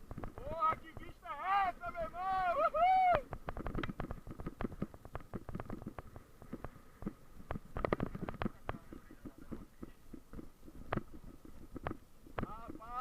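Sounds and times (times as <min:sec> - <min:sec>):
mountain bike rattling over rough ground: 0:00.0 - 0:13.0.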